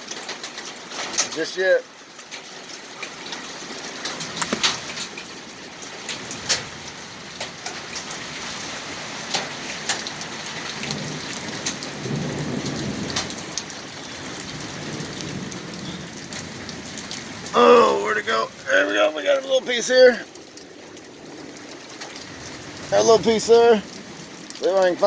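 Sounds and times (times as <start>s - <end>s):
hailstones clicking: 0.0s - 8.4s, 9.2s - 17.3s, 19.3s - 25.0s
rain hissing: 0.0s - 25.0s.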